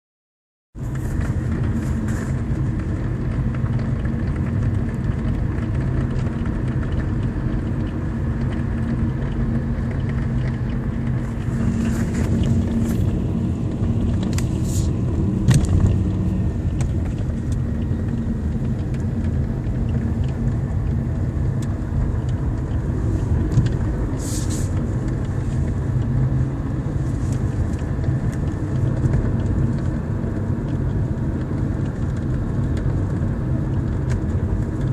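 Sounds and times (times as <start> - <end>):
car driving rumble: 0.8 - 34.9.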